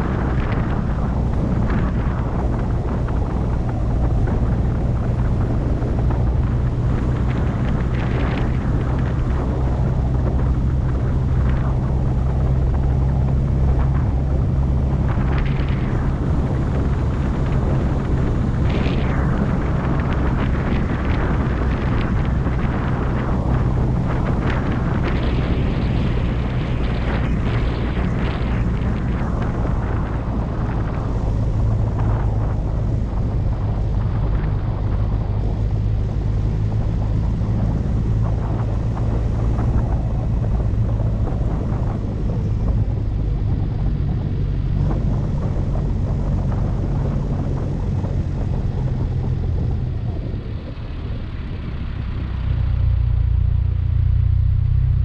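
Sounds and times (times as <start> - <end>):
car engine drone: 0.0 - 55.0
road and wind rush: 0.0 - 55.0.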